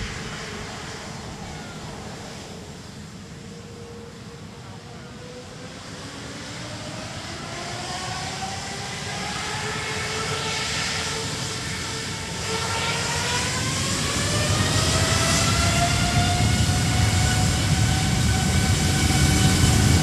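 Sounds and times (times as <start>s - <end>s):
jet engines spooling up: 0.0s - 4.3s, 5.2s - 20.0s.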